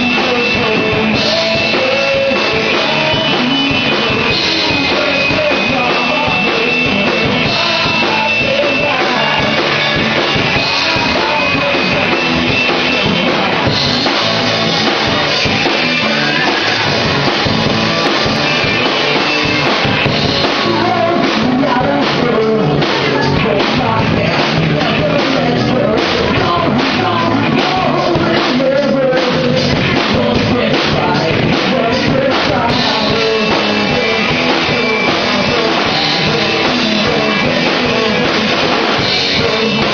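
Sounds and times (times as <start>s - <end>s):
drum and cymbal hits: 0.0s - 39.9s
person singing: 0.0s - 39.9s
rock band playing live: 0.0s - 39.9s.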